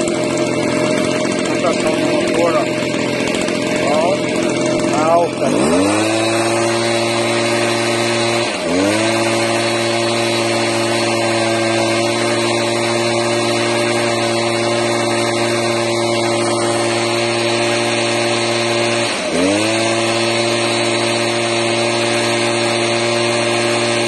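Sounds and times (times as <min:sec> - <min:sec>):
leaf blower engine running: 0:00.0 - 0:24.0.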